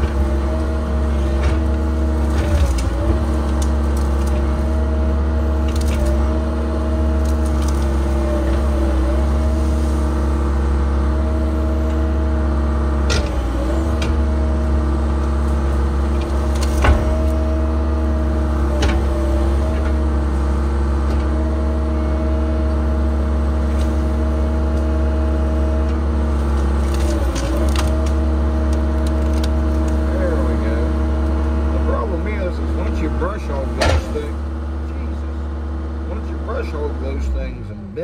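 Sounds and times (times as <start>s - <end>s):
excavator diesel engine running: 0.0s - 38.0s
hydraulics working: 0.0s - 38.0s.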